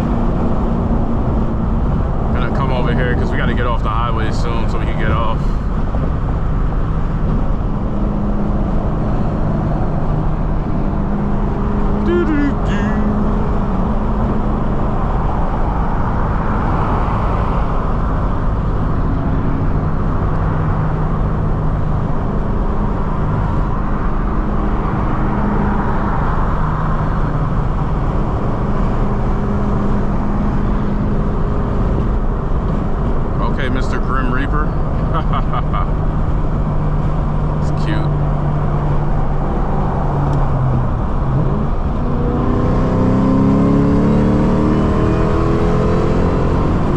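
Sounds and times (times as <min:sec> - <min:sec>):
car engine running: 0:00.0 - 0:46.9
tyre and road noise: 0:00.0 - 0:46.9.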